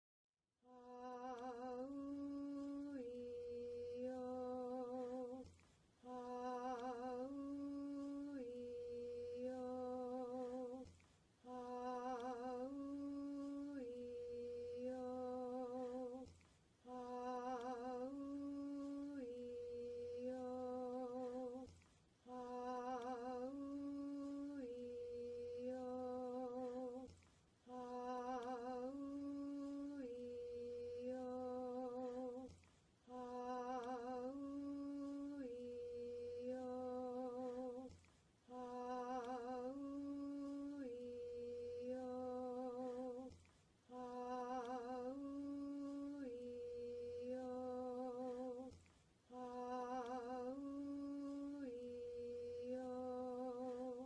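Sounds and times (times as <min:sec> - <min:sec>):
person singing vowel chant: 0:00.6 - 0:54.0.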